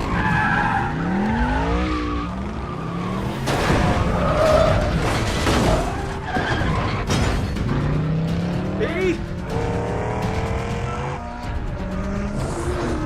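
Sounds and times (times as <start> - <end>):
car engine revving: 0.0 - 13.0
tyres skidding: 0.0 - 13.0.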